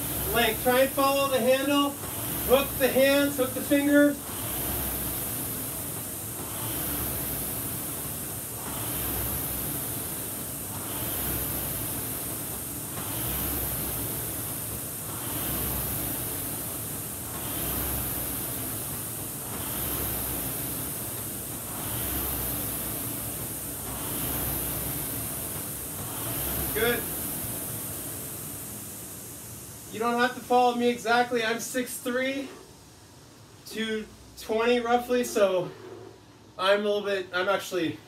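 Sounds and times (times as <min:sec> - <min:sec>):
rowing machine flywheel whooshing: 0:00.0 - 0:36.6.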